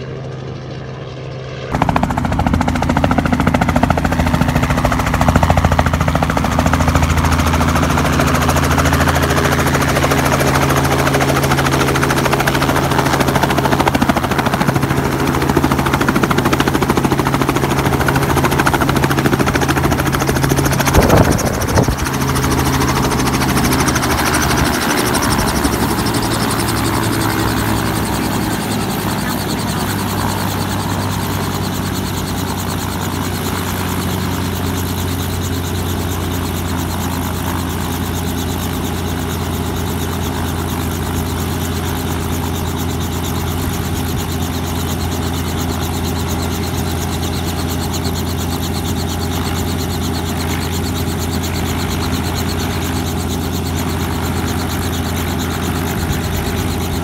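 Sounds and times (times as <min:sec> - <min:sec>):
helicopter rotor chop: 0:00.0 - 0:57.0.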